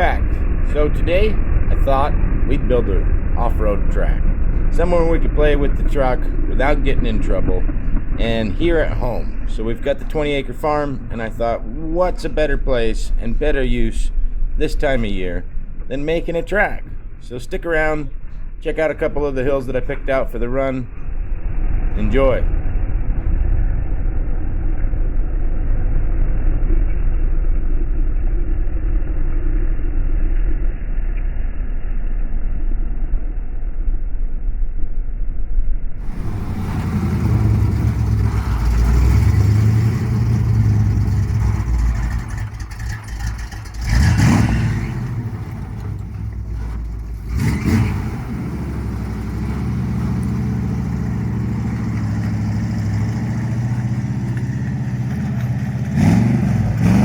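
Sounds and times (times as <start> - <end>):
vehicle engine low rumble: 0.0 - 57.0.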